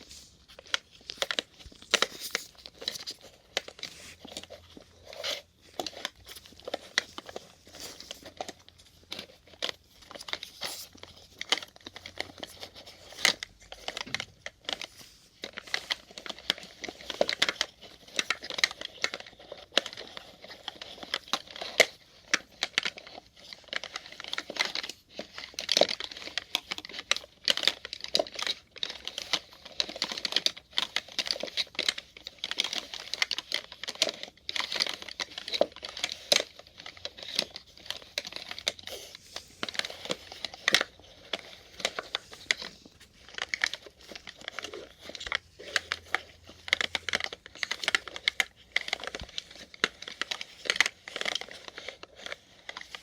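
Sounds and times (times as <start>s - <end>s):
plastic syringes clattering: 0.0s - 53.0s.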